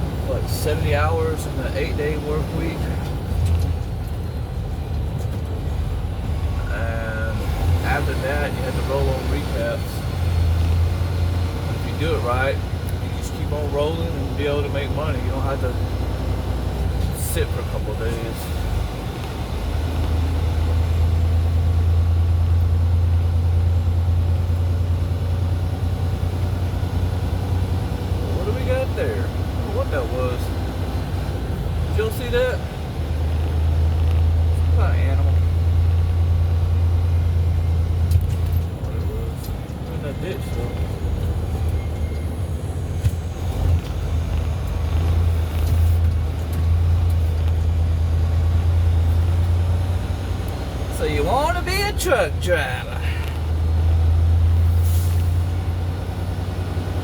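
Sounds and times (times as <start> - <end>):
diesel truck engine droning: 0.0 - 57.0
road noise: 0.0 - 57.0.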